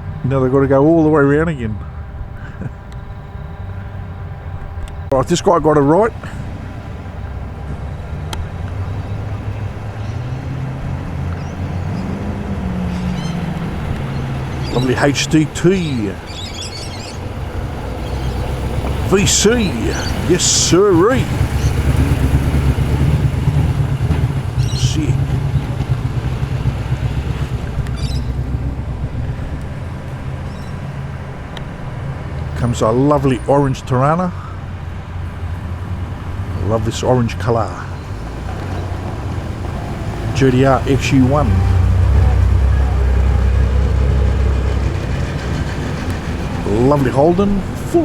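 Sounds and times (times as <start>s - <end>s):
car engine rumbling: 0.0s - 48.0s.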